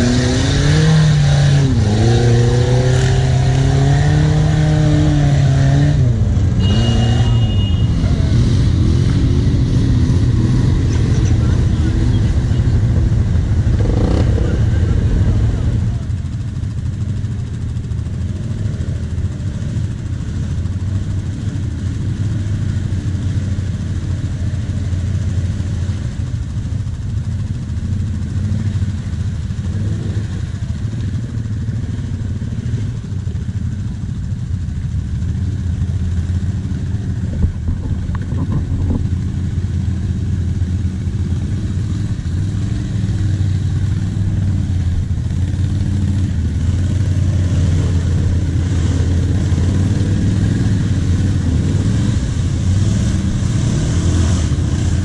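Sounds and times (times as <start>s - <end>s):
quad bike engine idling: 6.1s - 55.0s.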